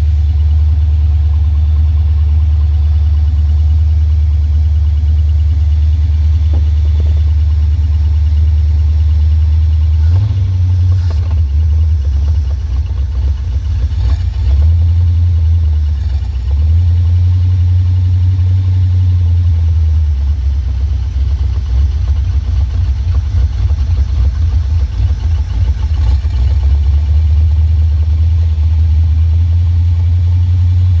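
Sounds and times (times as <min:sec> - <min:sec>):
engine idling with throttle blips: 0:00.0 - 0:31.0.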